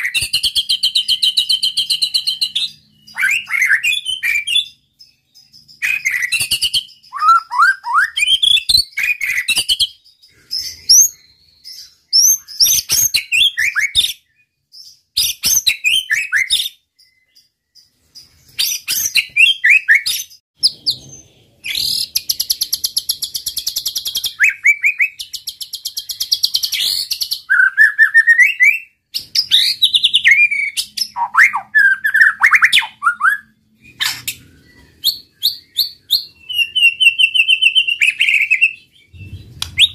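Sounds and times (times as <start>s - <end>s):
bird singing whistled phrases: 0.0s - 17.5s, 18.5s - 39.9s.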